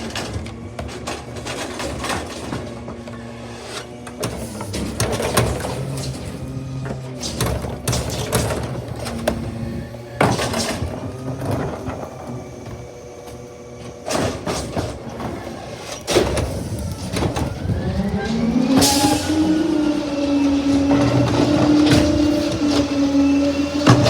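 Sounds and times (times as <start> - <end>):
garbage truck engine revving: 0.0 - 24.0.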